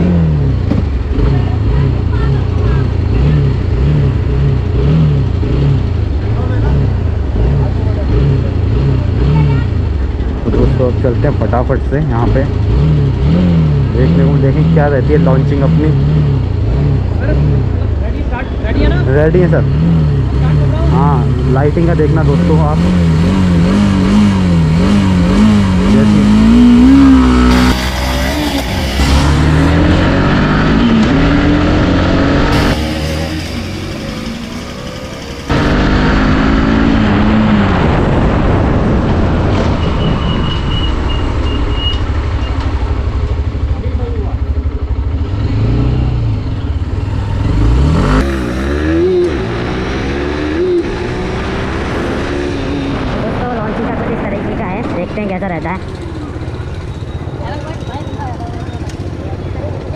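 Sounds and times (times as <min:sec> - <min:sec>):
motorcycle accelerating hard: 0:00.0 - 0:59.9
motorcycle engine revving: 0:00.0 - 0:59.9.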